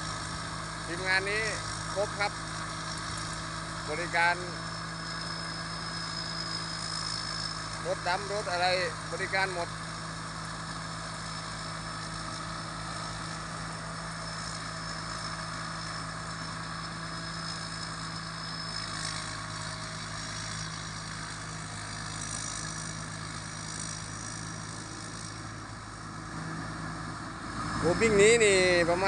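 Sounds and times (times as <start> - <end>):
engine hum: 0.0 - 29.0
faint high whine: 0.0 - 29.0.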